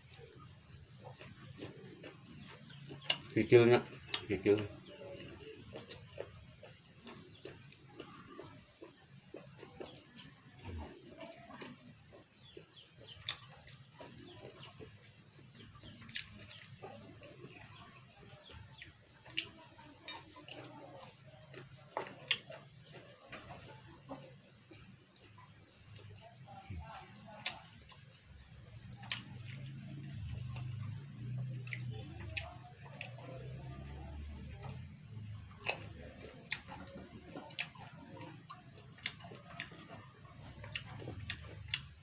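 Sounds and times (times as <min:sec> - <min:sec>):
person chewing and lip smacking: 0:00.0 - 0:42.0.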